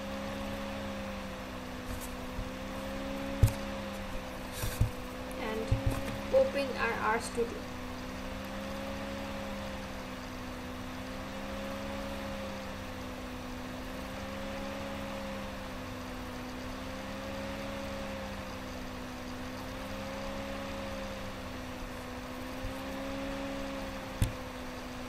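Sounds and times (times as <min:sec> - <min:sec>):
wavering low hum: 0:00.0 - 0:25.0.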